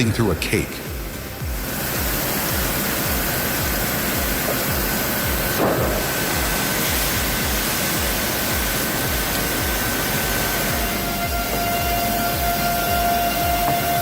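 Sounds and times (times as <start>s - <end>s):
sawmill saw cutting log: 1.6s - 14.0s.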